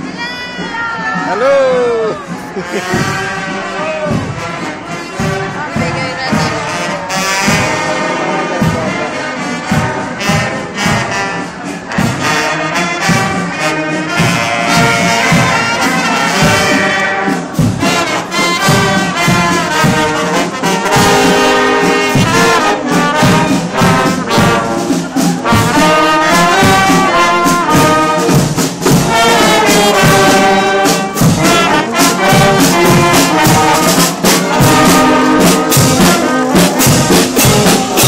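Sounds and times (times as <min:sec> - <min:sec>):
marching band playing: 0:00.0 - 0:38.0
steady drum beat: 0:00.0 - 0:38.0.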